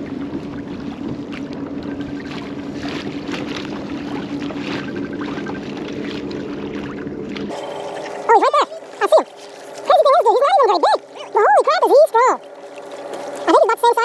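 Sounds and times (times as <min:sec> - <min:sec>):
steady low hum: 0:00.0 - 0:14.0
water splashing along hull: 0:00.0 - 0:14.0.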